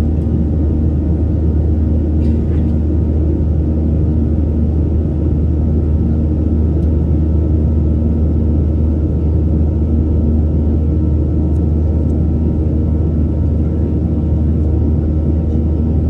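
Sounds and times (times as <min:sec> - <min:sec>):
jet engine rumble in cabin: 0:00.0 - 0:16.0.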